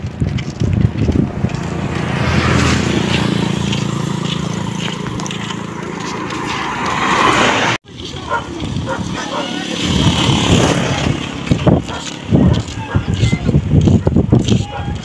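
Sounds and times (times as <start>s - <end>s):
vehicle engine hum: 0.0s - 14.8s
tyre and road noise: 0.0s - 15.0s.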